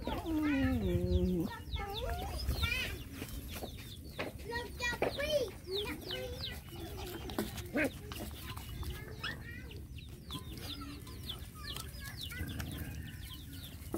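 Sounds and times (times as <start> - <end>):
chickens chirping: 0.0 - 13.9.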